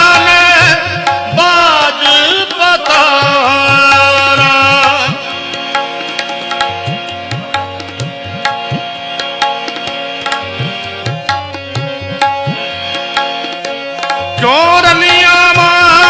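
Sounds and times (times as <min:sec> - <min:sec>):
harmonium chords: 0:00.0 - 0:16.0
tabla playing rhythm: 0:00.0 - 0:16.0.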